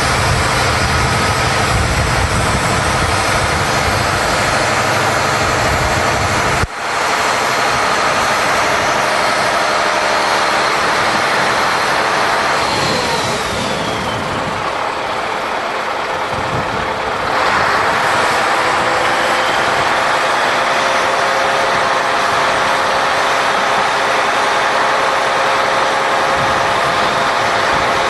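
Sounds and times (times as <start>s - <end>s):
high whine: 0.0s - 28.0s
truck engine running: 0.0s - 28.0s.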